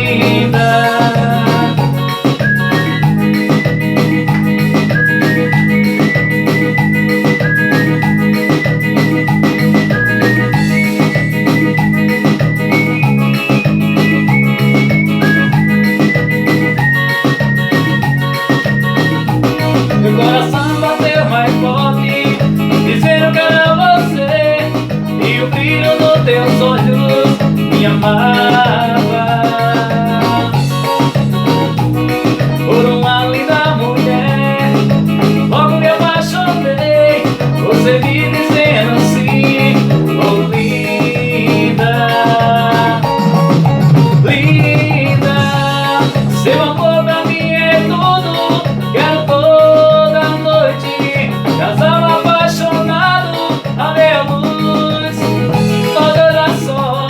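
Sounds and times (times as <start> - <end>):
keyboards: 0.0 - 57.0
steady beat: 0.0 - 57.0.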